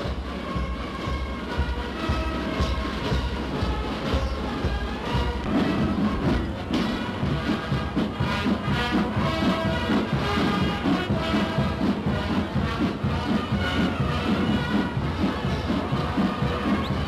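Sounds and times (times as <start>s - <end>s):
military brass band playing: 0.0s - 17.0s.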